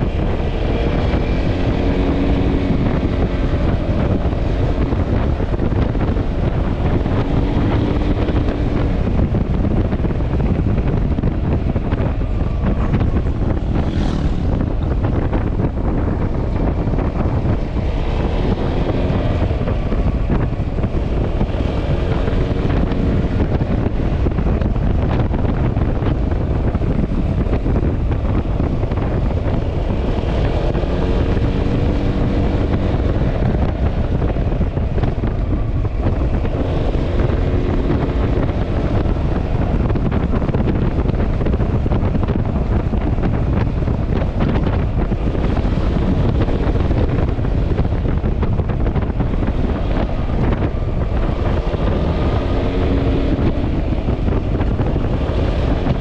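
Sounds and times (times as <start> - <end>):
scooter engine and road rumble: 0.0 - 56.0
wind buffeting microphone: 0.0 - 56.0.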